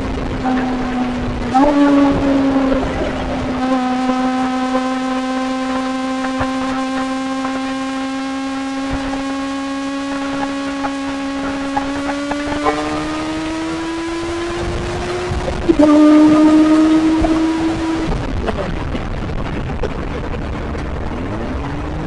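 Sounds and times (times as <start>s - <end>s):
motorcycle engine buzzing: 0.0s - 22.0s.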